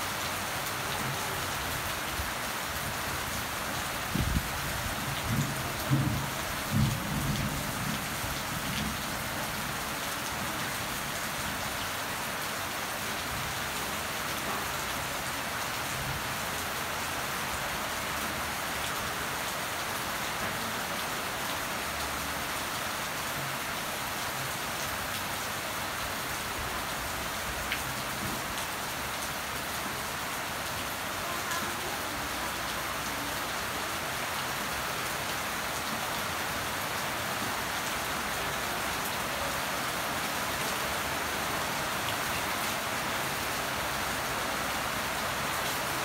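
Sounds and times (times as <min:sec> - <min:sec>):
rain on leafy plants: 0:00.0 - 0:46.0.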